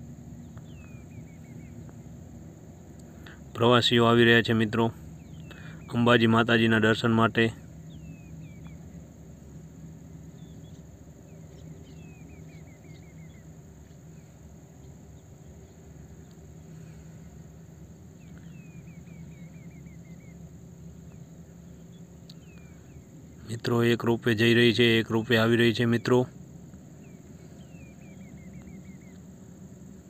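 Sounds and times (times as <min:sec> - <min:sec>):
low hum of ropeway machinery: 0:00.0 - 0:30.0.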